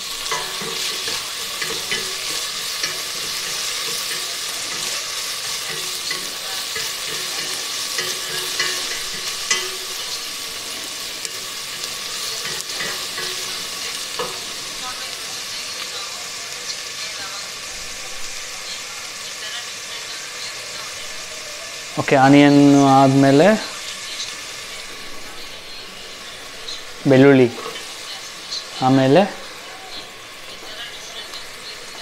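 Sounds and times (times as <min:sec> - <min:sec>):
onions sizzling in oil: 0:00.0 - 0:32.0.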